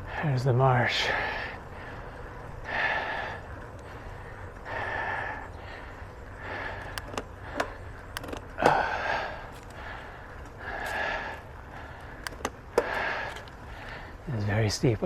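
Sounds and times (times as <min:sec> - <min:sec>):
cyclist breathing hard: 0:00.0 - 0:14.3
bicycle clicks and rattles: 0:00.0 - 0:15.0.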